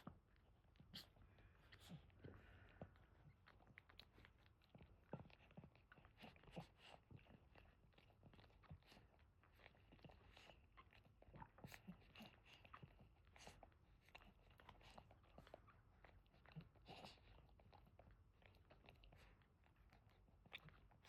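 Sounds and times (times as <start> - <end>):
dogs licking and suckling: 0.0 - 21.0.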